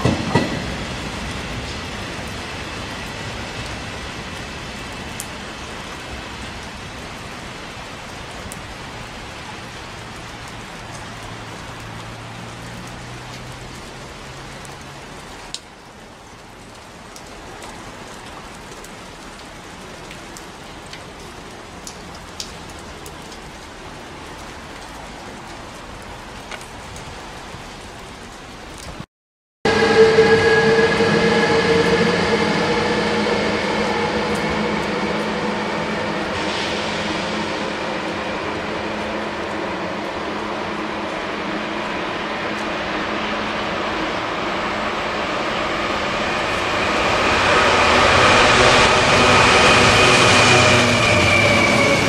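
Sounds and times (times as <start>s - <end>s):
steady rain falling: 0.0s - 29.1s, 29.7s - 52.0s.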